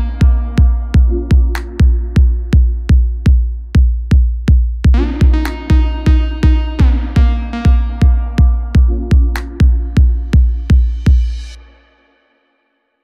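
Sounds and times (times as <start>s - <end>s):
sustained synth chords: 0.0s - 4.2s, 4.9s - 11.6s
heavy kick drum beat: 0.0s - 11.6s
electronic music: 0.0s - 11.8s.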